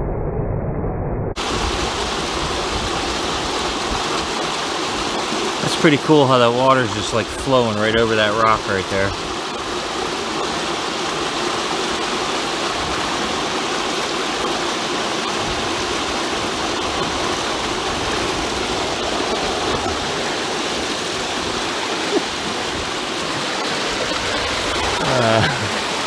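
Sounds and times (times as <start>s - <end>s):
stream water over rock: 1.4s - 26.0s.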